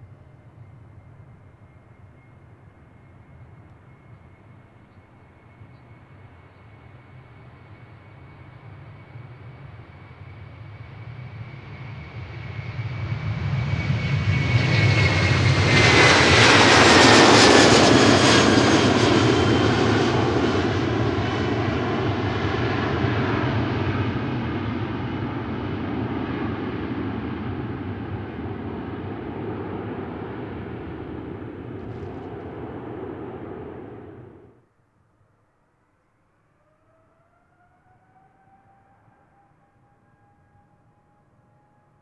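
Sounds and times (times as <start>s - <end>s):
high engine whine: 0.0s - 34.6s
jet engines roaring at takeoff: 0.0s - 34.6s.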